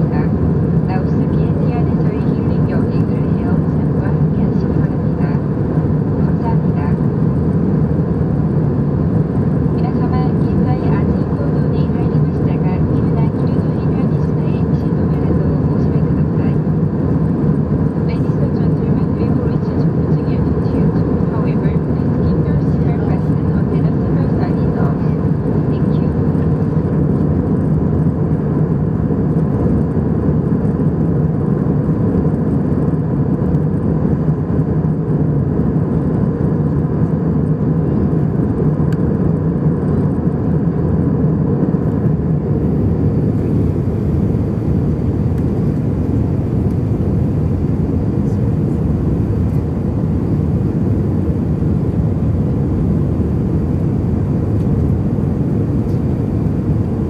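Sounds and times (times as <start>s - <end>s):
jet engines and airflow in cabin: 0.0s - 57.0s.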